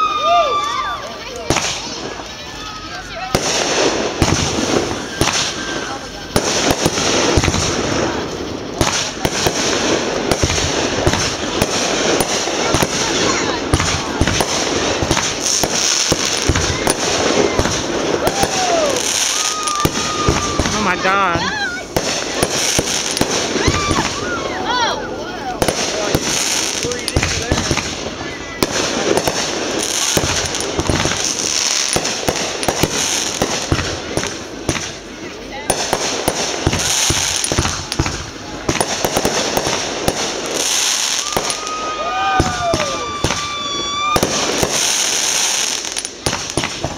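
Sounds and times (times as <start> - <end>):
continuous dense hiss: 0.0 - 46.9
continuous noisy haze: 0.0 - 46.9
fireworks bangs: 0.0 - 46.9.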